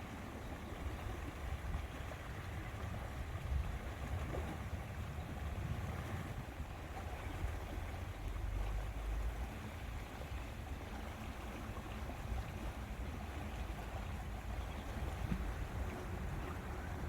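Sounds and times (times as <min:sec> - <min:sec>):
small waves lapping: 0:00.0 - 0:17.0.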